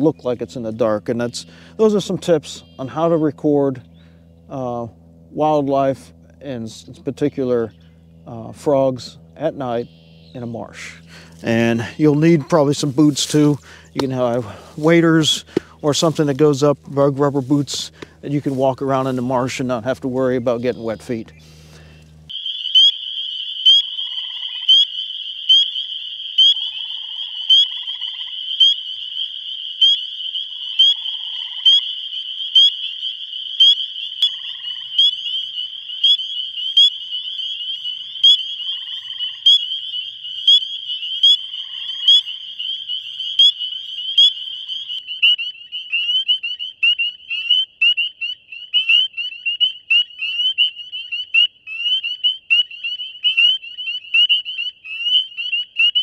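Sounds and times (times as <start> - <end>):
chorus of frogs calling: 0.0 - 56.0
low buzzy frog notes: 0.0 - 56.0
frog high rising peeps: 1.4 - 4.8, 9.2 - 18.3, 18.9 - 56.0.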